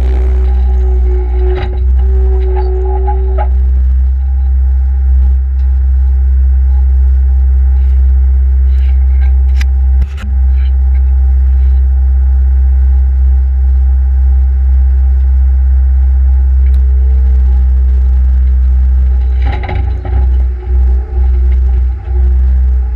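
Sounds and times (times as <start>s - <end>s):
diesel engine droning: 0.0s - 22.9s.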